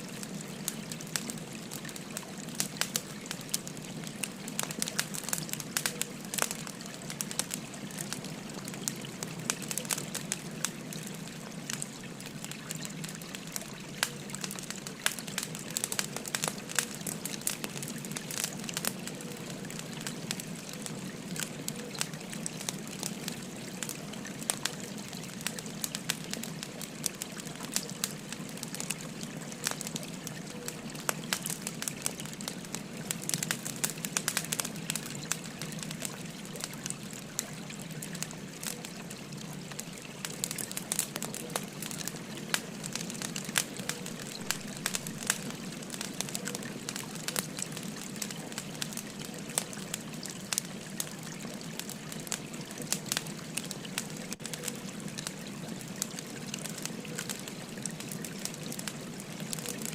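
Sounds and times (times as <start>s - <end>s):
babbling river: 0.0s - 59.9s
wood fire crackling and popping: 0.0s - 59.9s.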